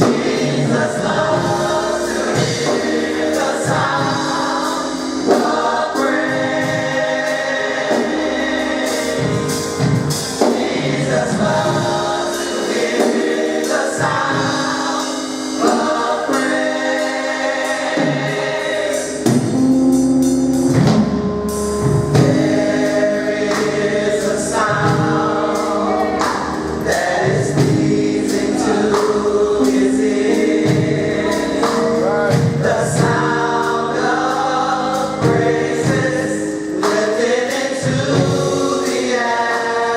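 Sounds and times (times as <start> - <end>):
band accompaniment: 0.0 - 39.9
gospel choir singing: 0.0 - 39.9.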